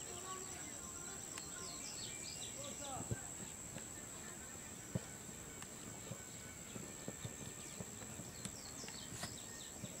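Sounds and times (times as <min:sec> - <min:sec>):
faint high chirps: 0:00.0 - 0:10.0
high-pitched insect drone: 0:00.0 - 0:10.0.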